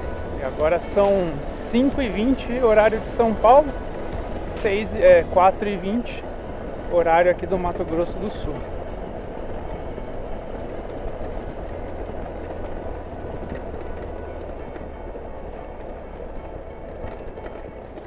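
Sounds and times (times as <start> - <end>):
motorcycle engine drone: 0.0 - 18.0
wind and road noise: 0.0 - 18.0.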